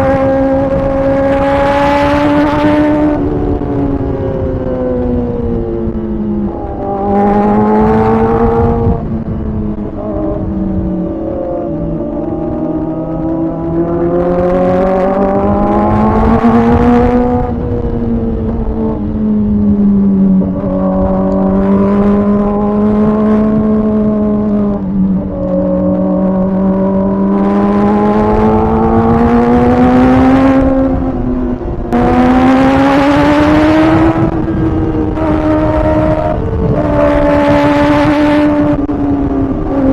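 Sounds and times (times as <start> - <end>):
motorcycle engine revving: 0.0 - 39.9
wind and road rush: 0.0 - 39.9.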